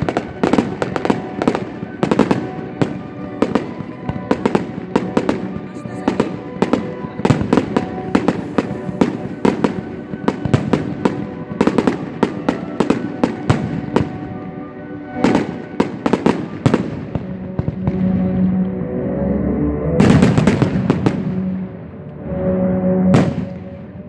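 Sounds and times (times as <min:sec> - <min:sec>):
fireworks banging: 0:00.0 - 0:14.4, 0:15.1 - 0:18.6, 0:20.0 - 0:21.6, 0:23.1 - 0:24.0
music with held notes: 0:00.0 - 0:24.0.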